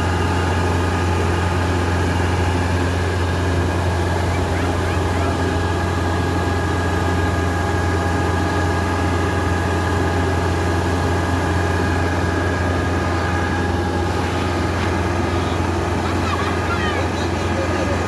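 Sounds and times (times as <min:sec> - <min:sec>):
combine harvester engine droning: 0:00.0 - 0:18.0.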